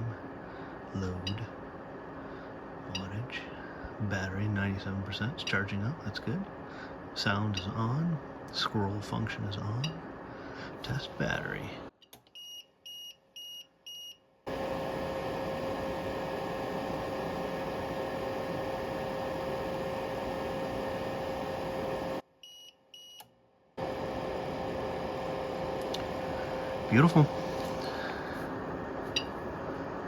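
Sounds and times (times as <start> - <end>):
ups hum and cooling fan: 0.0 - 30.0.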